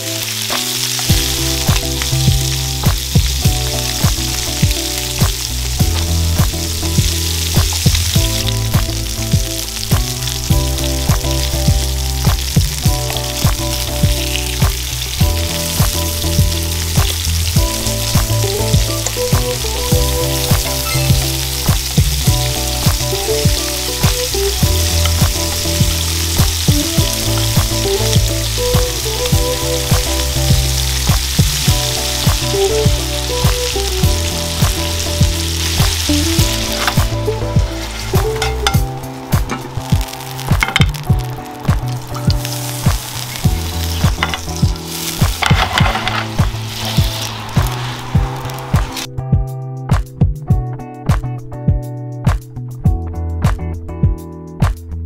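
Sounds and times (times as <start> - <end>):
chicken sizzling in frying pan: 0.0 - 49.1
background music with steady beat: 0.0 - 55.0.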